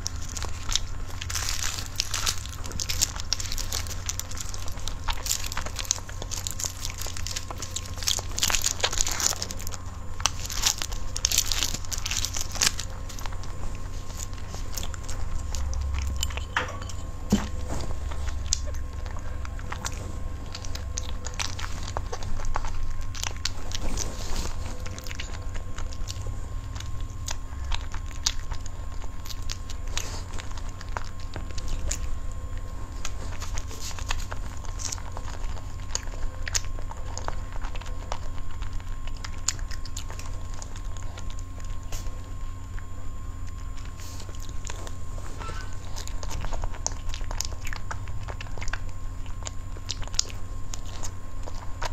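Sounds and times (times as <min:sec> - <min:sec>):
chewing cake: 0:00.0 - 0:51.9
steady low hum: 0:00.0 - 0:51.9.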